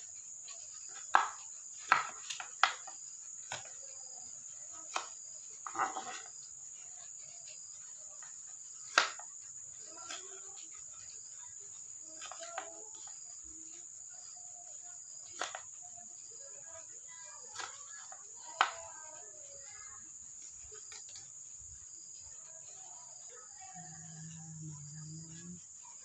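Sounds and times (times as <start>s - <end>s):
high-pitched insect trill: 0.0s - 26.0s.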